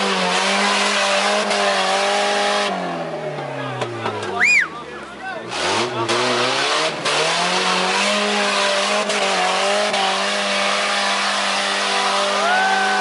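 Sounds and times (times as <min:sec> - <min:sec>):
engine revving hard: 0:00.0 - 0:03.3, 0:05.5 - 0:13.0.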